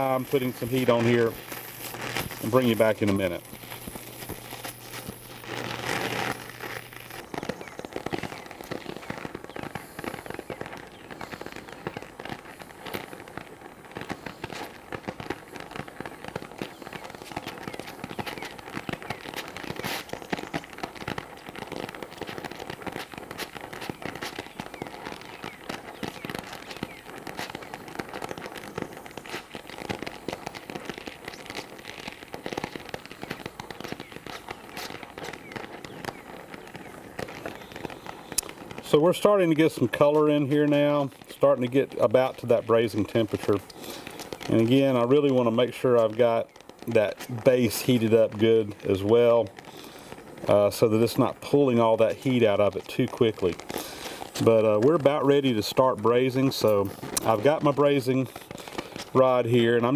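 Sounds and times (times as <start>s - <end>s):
gas torch flame roaring: 0.0s - 45.8s, 53.6s - 54.8s, 56.2s - 59.3s
dense crackling: 0.0s - 59.9s.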